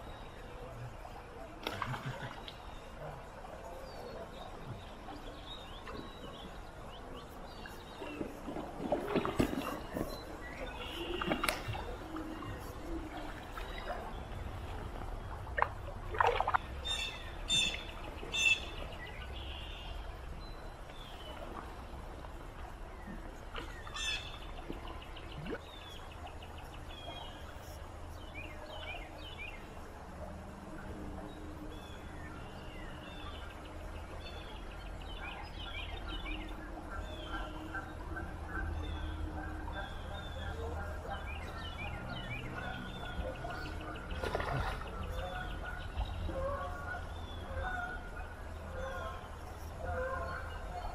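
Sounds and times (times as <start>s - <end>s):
water splashes: 0.0s - 27.7s, 33.0s - 50.9s
stream water flowing: 0.0s - 50.9s.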